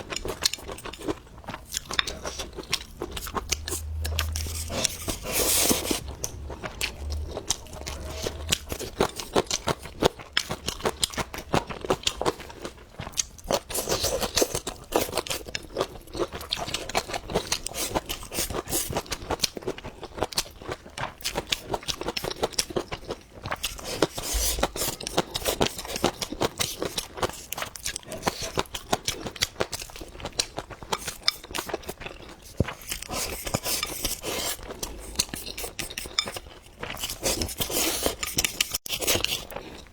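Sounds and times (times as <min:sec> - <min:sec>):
chewing with wet crunches: 0:00.0 - 0:39.9.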